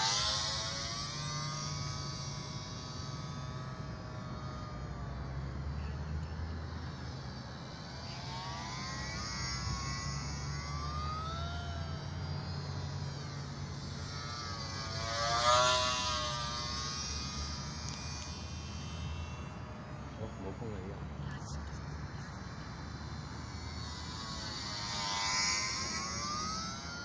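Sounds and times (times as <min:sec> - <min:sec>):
model plane electric motor whining: 0:00.0 - 0:27.0.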